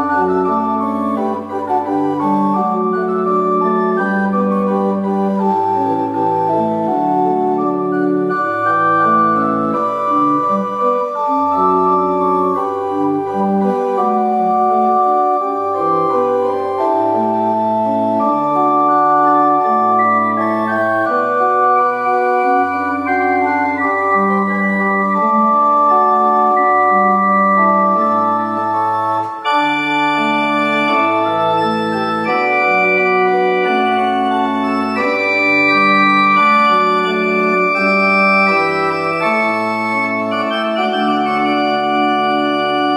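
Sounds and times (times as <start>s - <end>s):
pipe organ playing chords: 0.0s - 42.9s.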